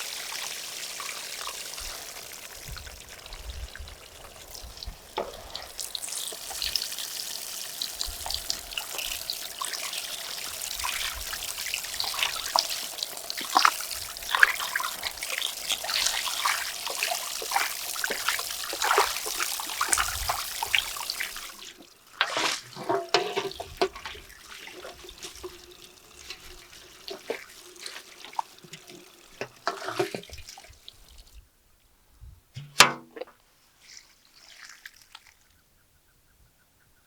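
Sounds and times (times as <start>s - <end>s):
water running: 0.0s - 31.4s.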